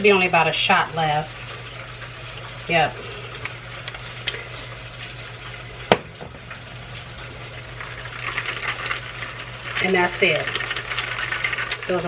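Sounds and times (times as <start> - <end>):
food frying sizzle: 0.0 - 12.0
low hum: 1.7 - 11.6.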